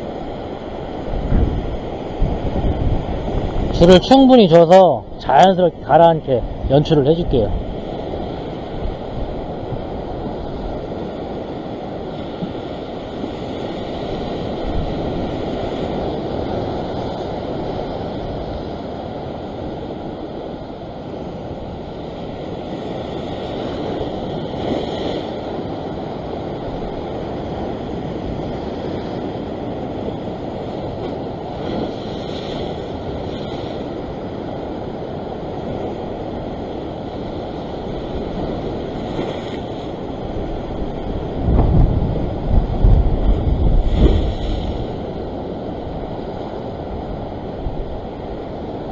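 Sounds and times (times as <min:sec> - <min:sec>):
surf washing over rocks: 0:00.0 - 0:48.9.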